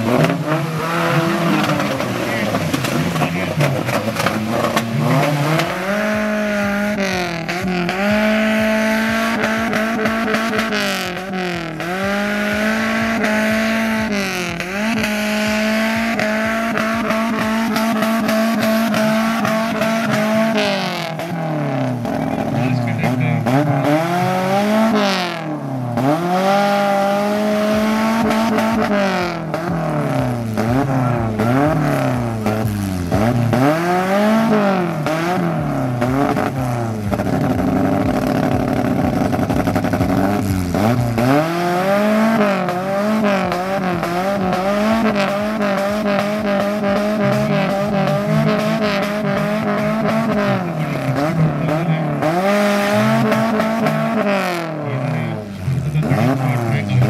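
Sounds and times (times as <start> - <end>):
jeep engine revving hard: 0.0 - 57.0.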